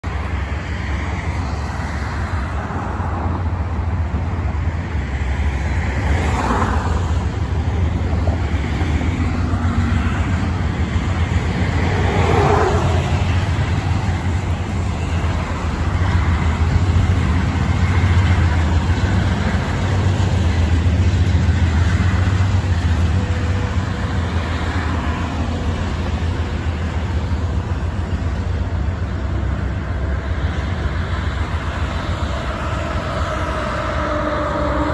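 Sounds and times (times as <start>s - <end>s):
cars and trucks passing: 0.0s - 34.9s
low traffic rumble: 0.0s - 34.9s.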